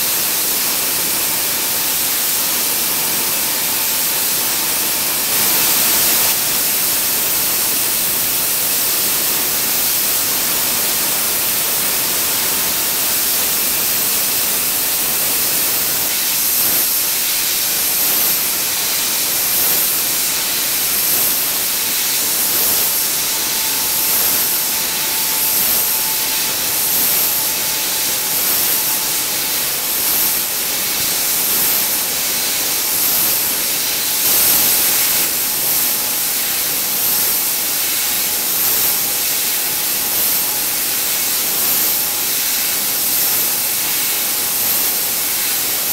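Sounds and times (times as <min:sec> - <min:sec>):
faint steady whine: 0:00.0 - 0:45.0
air turbine spindle hiss: 0:00.0 - 0:45.9.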